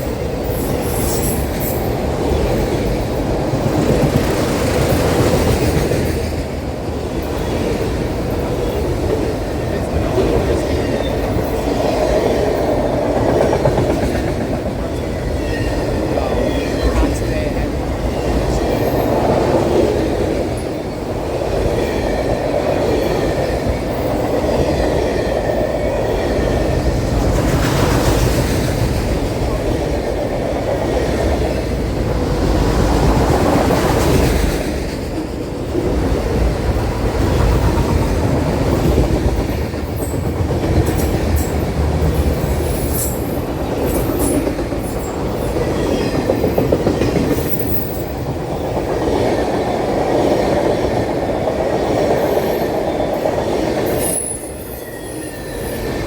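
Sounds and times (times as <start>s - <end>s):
train cars rumbling and clattering: 0.0s - 56.0s.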